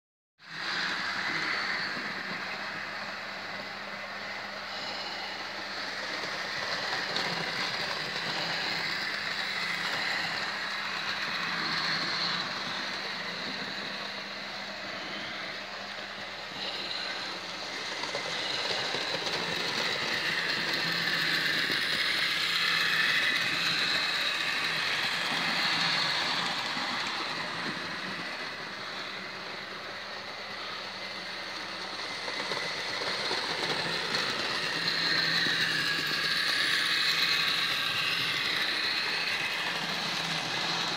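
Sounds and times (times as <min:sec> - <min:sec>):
model train running on track: 0:00.4 - 0:40.9.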